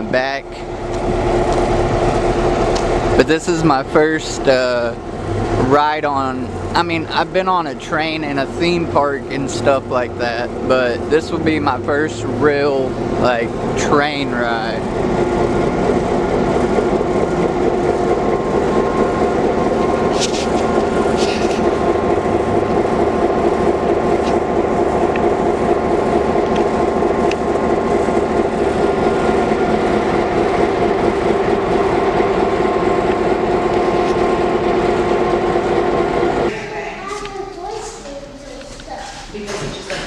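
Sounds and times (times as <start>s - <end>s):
train droning rumble: 0.0s - 40.0s.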